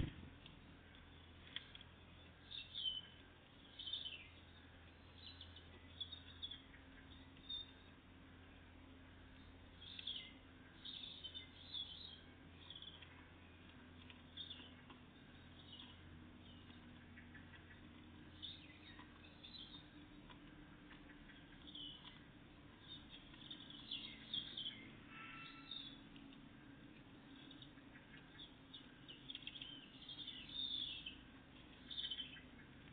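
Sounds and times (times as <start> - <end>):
small birds chirping: 0.0 - 32.9
steady low hum: 0.0 - 32.9.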